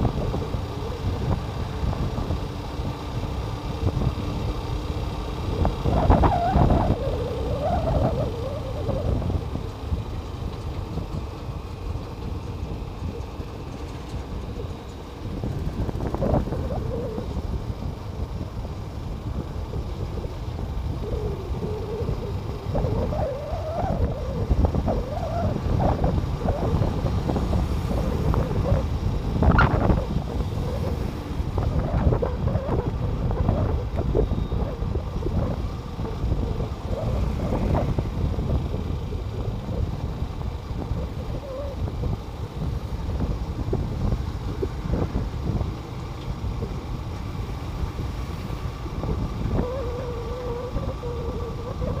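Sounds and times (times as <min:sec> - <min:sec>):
vehicle rumble on highway: 0:00.0 - 0:52.0
wind buffeting microphone: 0:00.0 - 0:52.0.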